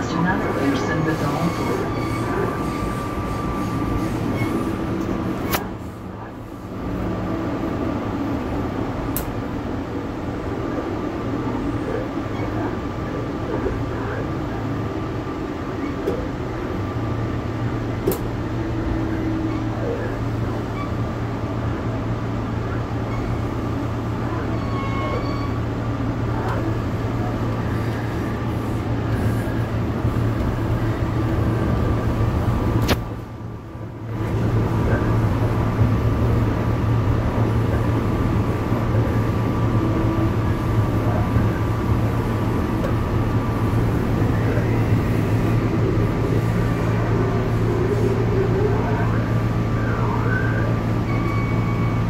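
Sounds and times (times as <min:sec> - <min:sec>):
train cabin rumble: 0:00.0 - 0:52.0.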